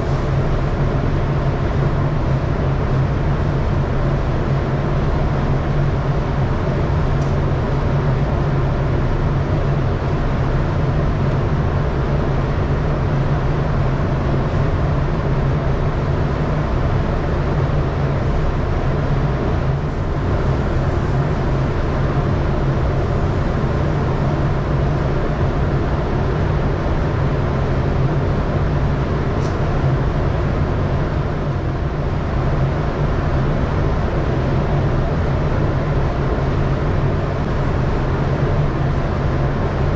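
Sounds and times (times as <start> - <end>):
ventilation fans humming: 0.0 - 39.9.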